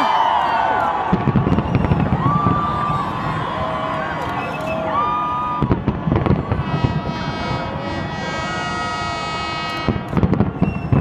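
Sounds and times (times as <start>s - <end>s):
fireworks bangs: 0.9s - 11.0s.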